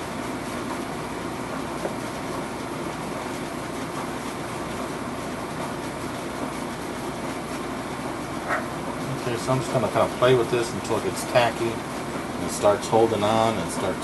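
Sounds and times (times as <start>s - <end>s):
steady hum and hiss: 0.0s - 14.0s.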